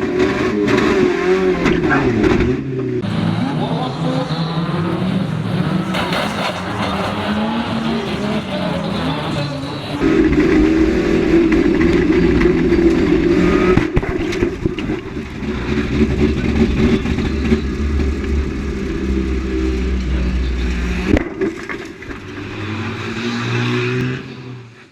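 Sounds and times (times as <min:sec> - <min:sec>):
racing car engines revving: 0:00.0 - 0:24.9.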